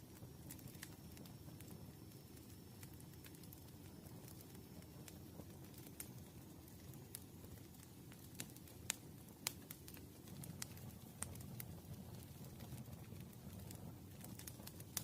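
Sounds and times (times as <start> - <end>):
campfire crackling: 0.0 - 15.0
fire pops and snaps: 0.0 - 15.0.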